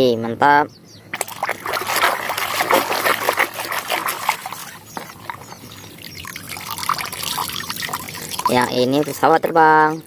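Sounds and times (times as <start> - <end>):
water splashing and sloshing: 1.1 - 10.0.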